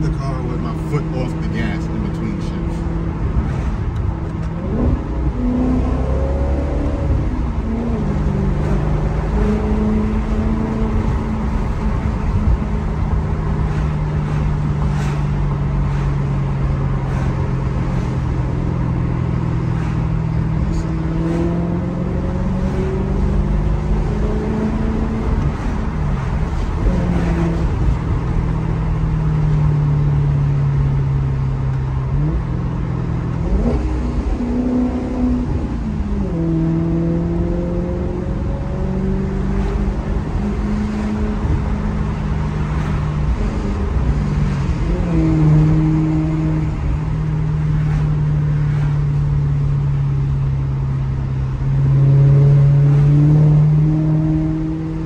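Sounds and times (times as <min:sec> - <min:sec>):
car engine and exhaust driving: 0:00.0 - 0:55.0.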